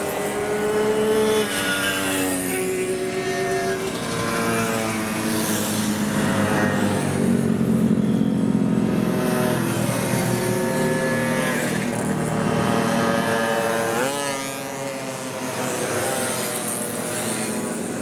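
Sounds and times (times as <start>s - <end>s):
moped engines passing: 0.0s - 18.0s.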